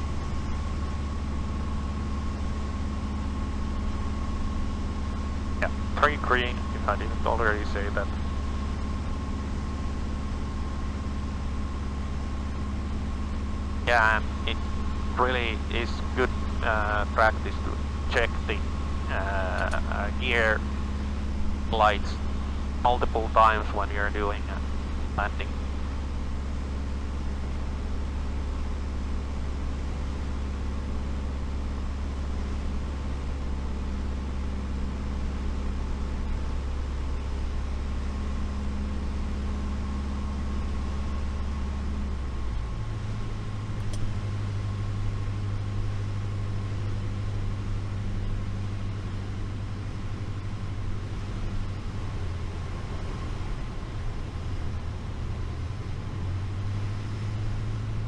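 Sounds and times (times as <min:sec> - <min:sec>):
propeller aircraft engine droning: 0:00.0 - 0:58.0.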